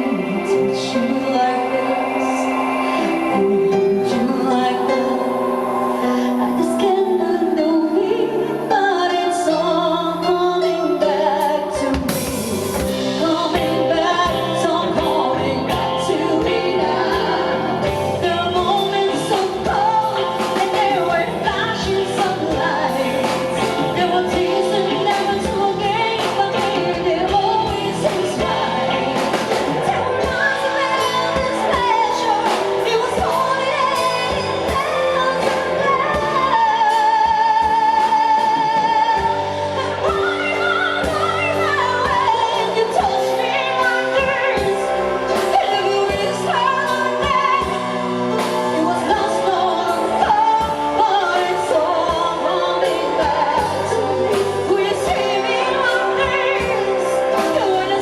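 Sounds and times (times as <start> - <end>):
live band playing ballad: 0.0 - 58.0
woman singing: 0.0 - 58.0.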